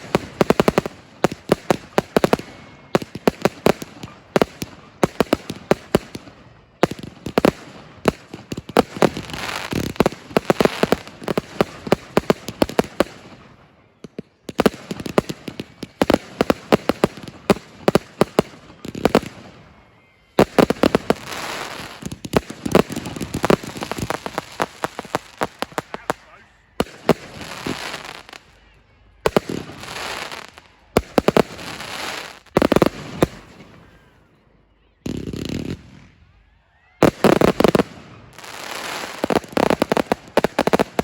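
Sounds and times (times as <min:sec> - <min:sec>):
fireworks bangs: 0:00.0 - 0:34.2, 0:35.0 - 0:36.4, 0:37.0 - 0:41.0
fireworks crackling: 0:00.0 - 0:34.4, 0:35.0 - 0:41.0.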